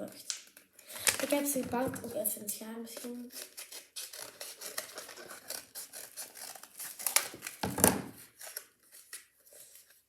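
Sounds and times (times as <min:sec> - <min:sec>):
plastic packaging crinkling: 0:00.4 - 0:02.2, 0:02.9 - 0:10.0.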